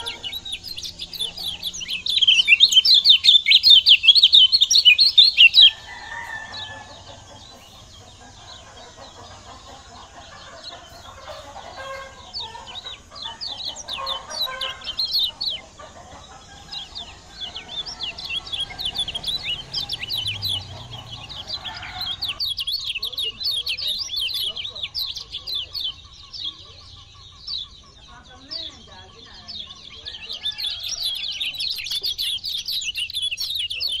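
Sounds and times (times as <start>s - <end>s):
bird rapid high chirping: 0.0s - 34.0s
other bird calls: 0.0s - 34.0s.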